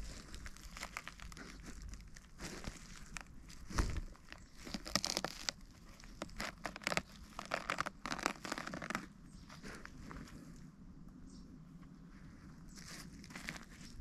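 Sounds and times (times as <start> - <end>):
rustling and crackling: 0.0 - 10.7, 11.7 - 14.0.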